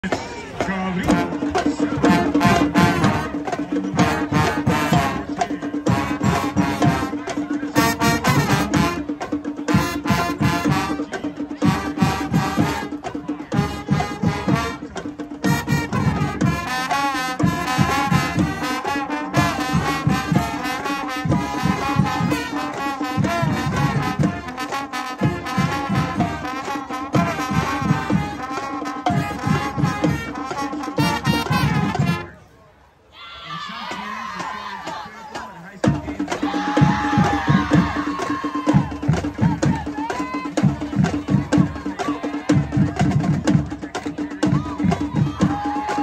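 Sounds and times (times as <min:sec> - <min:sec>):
steady drum beat: 0:00.0 - 0:32.4, 0:33.6 - 0:46.0
marching band brass playing: 0:00.0 - 0:32.7, 0:33.7 - 0:46.0.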